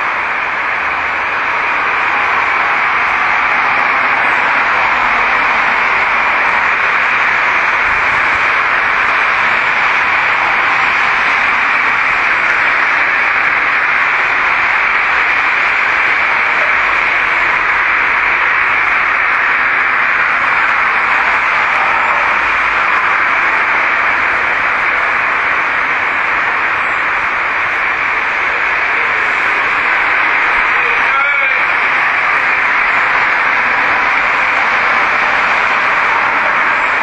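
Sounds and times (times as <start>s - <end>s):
recording hiss: 0.0s - 37.0s.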